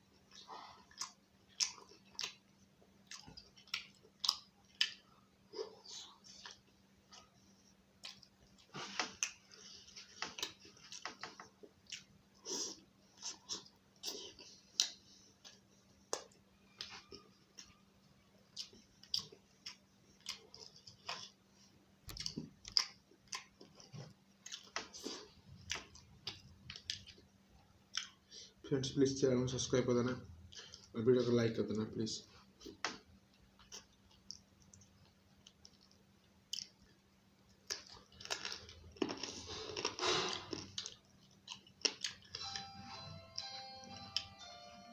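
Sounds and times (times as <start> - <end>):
chewing and wet mouth sounds: 0.1 - 17.8, 18.4 - 28.4, 32.5 - 42.6.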